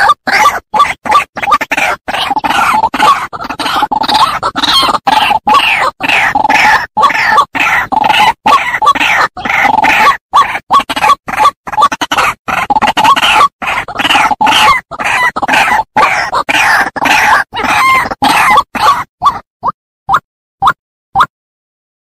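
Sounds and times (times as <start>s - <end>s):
bird harsh croaking calls: 0.0s - 19.4s.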